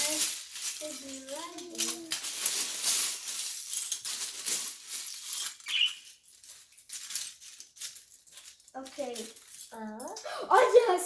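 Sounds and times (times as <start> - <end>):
plastic bricks clattering: 0.0 - 10.2.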